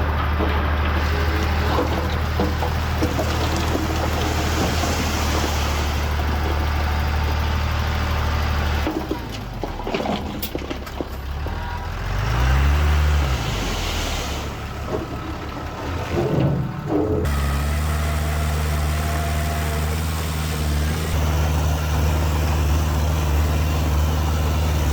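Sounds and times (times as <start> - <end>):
heavy diesel machinery engine: 0.0 - 24.9.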